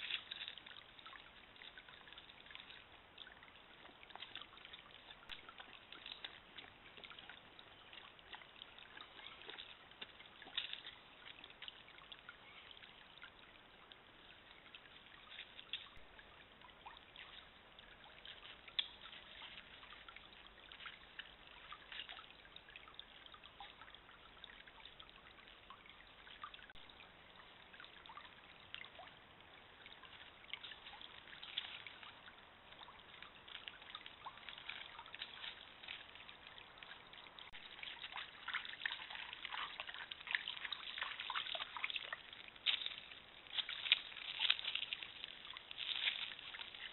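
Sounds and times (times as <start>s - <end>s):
stream trickling over stones: 0.0s - 46.9s
water drips: 0.0s - 46.9s.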